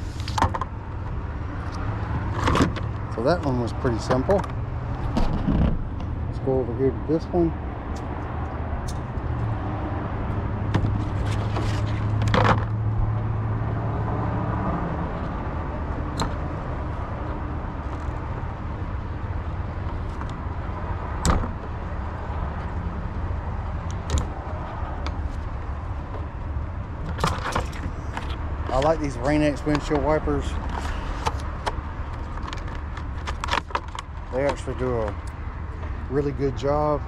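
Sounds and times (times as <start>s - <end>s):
vehicle engine humming: 0.0s - 37.0s.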